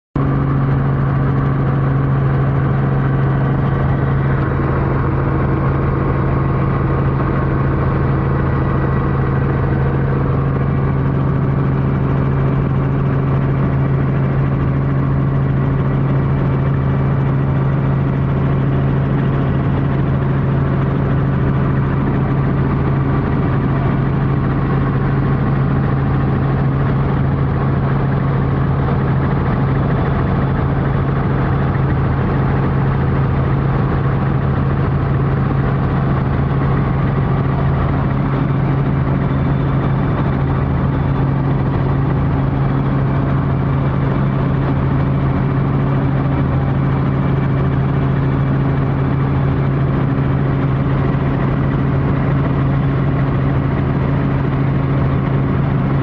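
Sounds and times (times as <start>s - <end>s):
helicopter engine and rotors drone: 0.2s - 56.0s.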